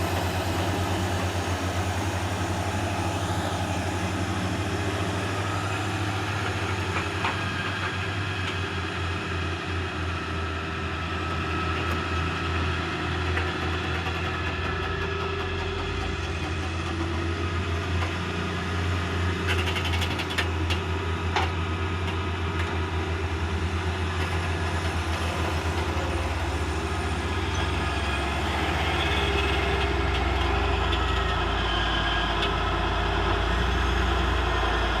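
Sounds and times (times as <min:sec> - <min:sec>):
heavy vehicle engine running: 0:00.0 - 0:35.0.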